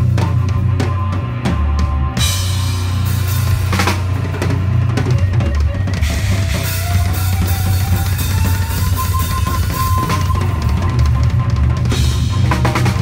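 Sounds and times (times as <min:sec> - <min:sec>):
fast kick-drum strokes: 0:02.2 - 0:13.0.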